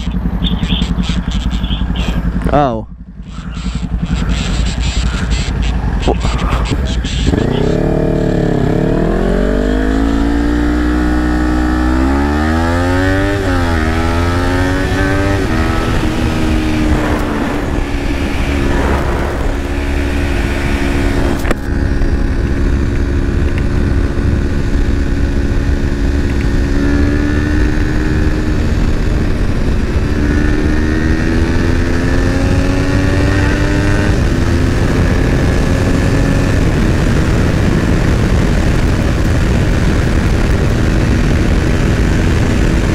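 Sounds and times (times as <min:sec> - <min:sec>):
motorcycle engine accelerating: 0:00.0 - 0:42.9
wind rush: 0:06.0 - 0:42.9.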